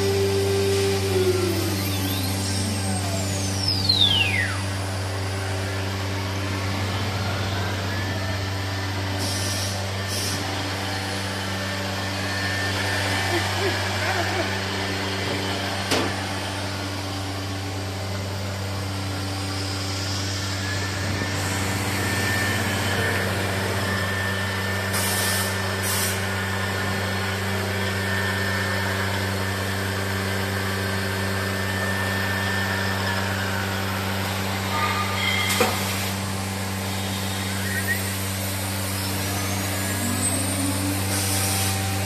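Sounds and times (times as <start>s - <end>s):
high steady whine: 0.0s - 42.0s
machine hum: 0.0s - 42.0s.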